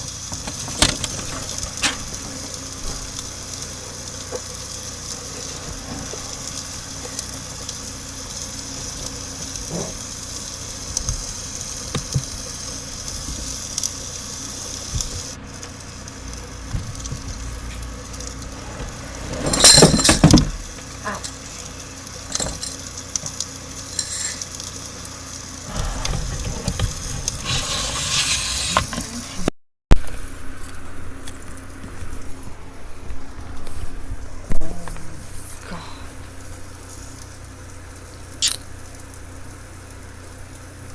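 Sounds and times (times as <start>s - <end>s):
campfire crackling: 0.0s - 28.3s, 30.0s - 40.9s.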